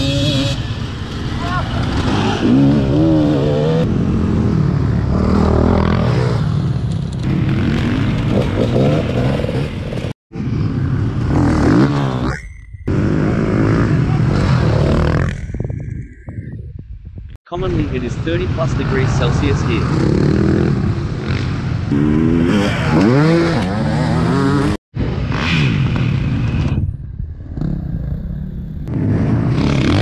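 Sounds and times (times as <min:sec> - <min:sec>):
dirt bike engines revving: 0:00.0 - 0:15.7, 0:17.5 - 0:26.8, 0:27.4 - 0:30.0.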